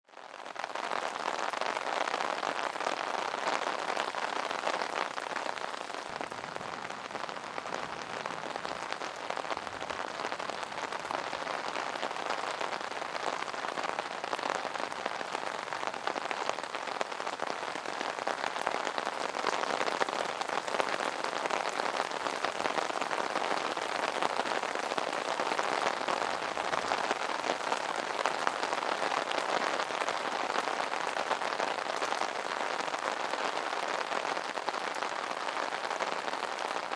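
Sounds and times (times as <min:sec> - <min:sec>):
rain on an umbrella: 0:00.0 - 0:36.9.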